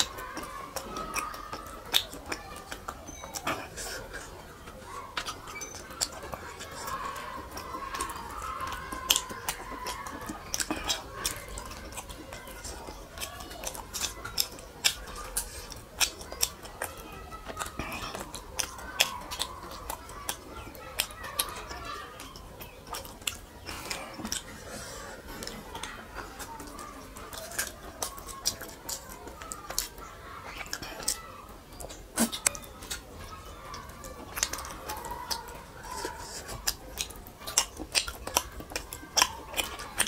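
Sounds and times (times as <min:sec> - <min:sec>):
wet chewing mouth clicks: 0:00.0 - 0:40.0.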